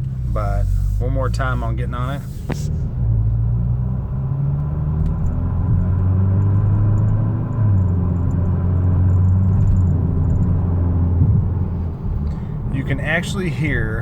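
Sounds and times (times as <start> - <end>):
deep exhaust rumble accelerating: 0.0 - 14.0.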